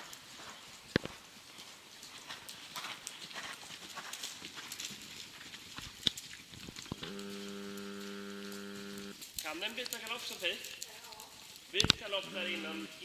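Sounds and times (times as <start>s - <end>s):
horse hooves knocking on ground: 0.0s - 13.0s.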